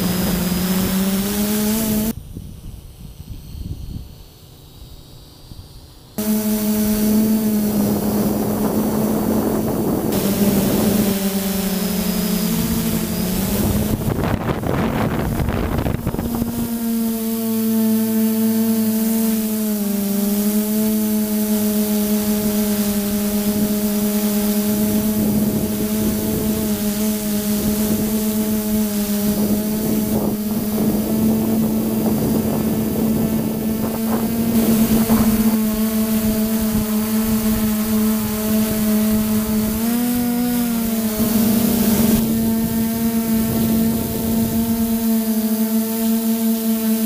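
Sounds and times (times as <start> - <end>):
wind on microphone: 0.0 - 4.3, 6.2 - 46.3
drone propellers humming: 0.0 - 47.0.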